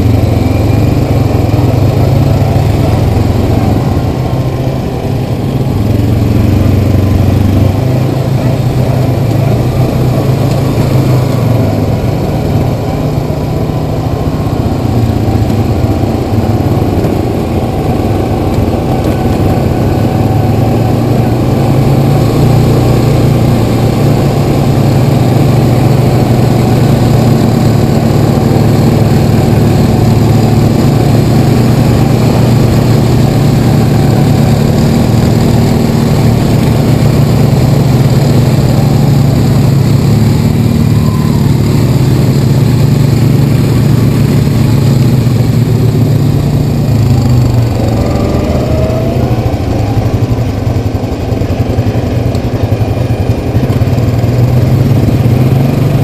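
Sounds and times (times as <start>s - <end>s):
atv engine running: 0.0s - 56.0s
rushing noise: 0.0s - 56.0s.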